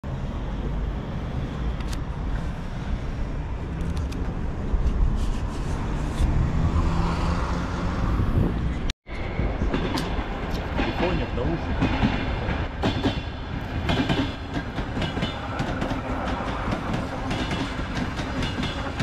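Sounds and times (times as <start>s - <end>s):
rumble of passing cars: 0.0s - 19.0s.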